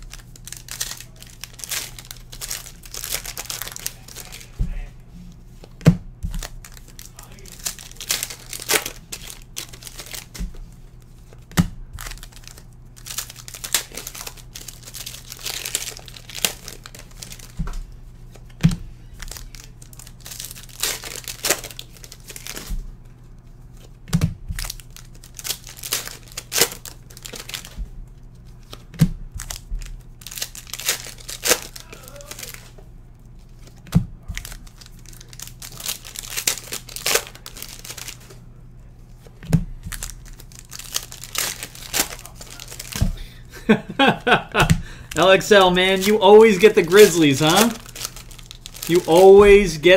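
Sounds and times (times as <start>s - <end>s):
plastic wrappers crinkling and tearing: 0.0s - 4.9s, 6.3s - 38.4s, 39.1s - 44.4s, 45.1s - 49.9s.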